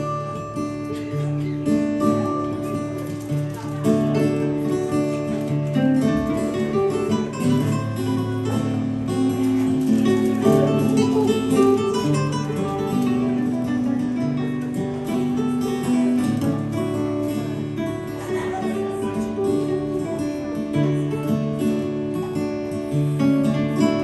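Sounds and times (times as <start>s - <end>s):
acoustic guitars playing: 0.0s - 24.0s.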